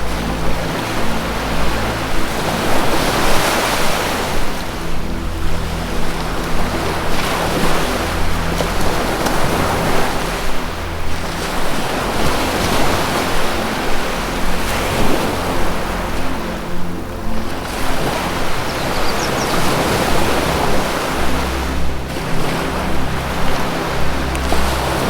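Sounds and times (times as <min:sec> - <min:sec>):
low musical drone: 0:00.0 - 0:25.0
ocean surf washing: 0:00.0 - 0:25.0.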